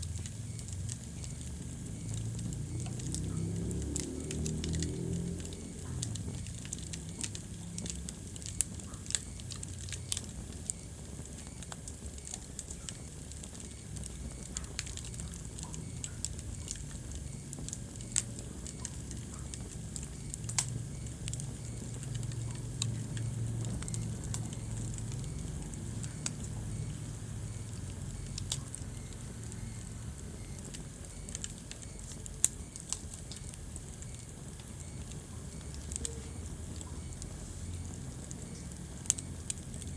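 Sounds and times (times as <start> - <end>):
crackling and popping logs: 0.0 - 39.9
low rumble of flames: 0.0 - 39.9.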